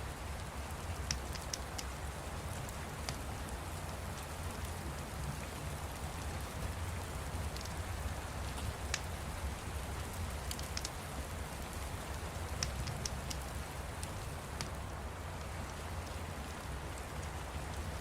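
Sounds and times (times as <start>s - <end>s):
steady rain: 0.0s - 18.0s
fire crackling: 0.4s - 18.0s.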